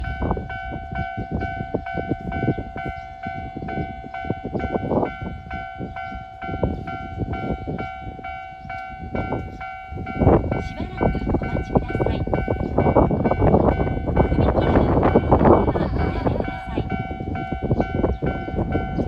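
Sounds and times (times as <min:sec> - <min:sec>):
level-crossing bell dinging: 0:00.0 - 0:19.0.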